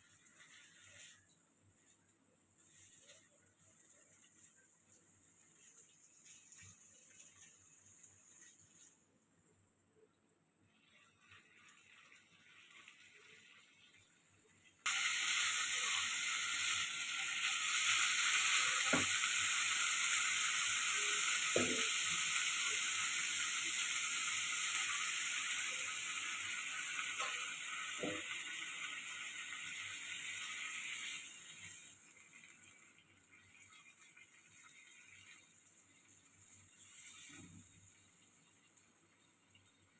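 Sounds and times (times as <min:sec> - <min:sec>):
food sizzling in oil: 0:00.0 - 0:08.9, 0:10.7 - 0:39.9.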